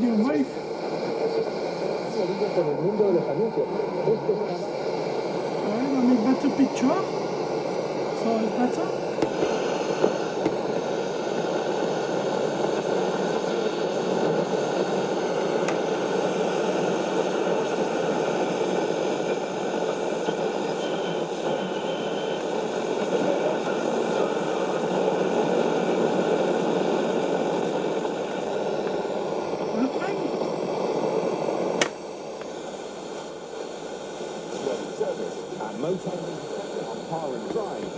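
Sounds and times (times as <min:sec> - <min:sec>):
radio static hiss: 0:00.0 - 0:37.9.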